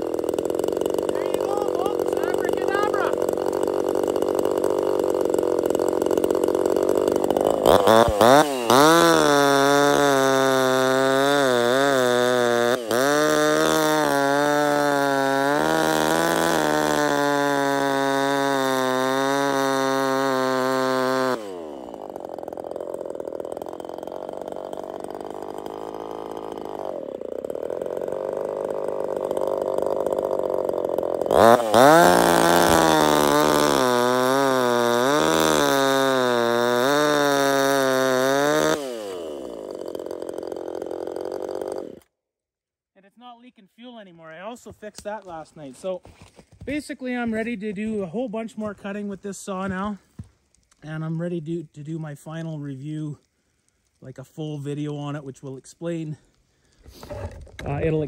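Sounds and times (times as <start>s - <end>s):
chainsaw cutting log: 0.0s - 42.1s, 43.1s - 58.0s
chainsaw idling: 0.0s - 42.1s, 43.1s - 58.0s.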